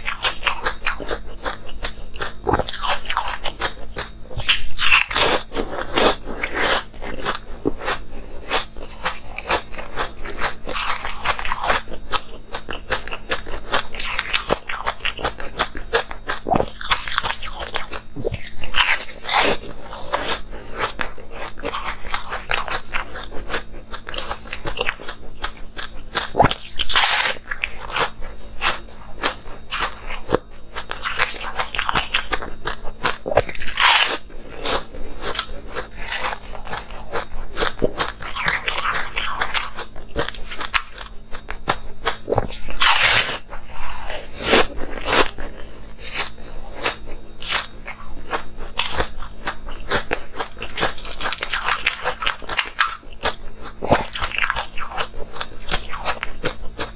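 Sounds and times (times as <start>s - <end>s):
teeth grinding ice fragments: 8.5s - 28.9s, 29.6s - 56.9s.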